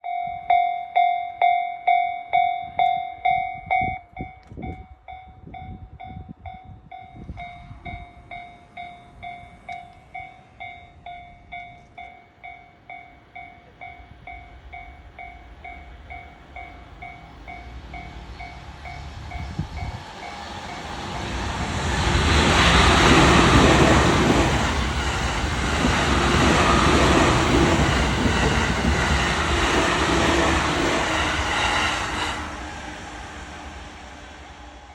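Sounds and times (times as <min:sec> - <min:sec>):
electric train rushing past: 0:05.4 - 0:34.9.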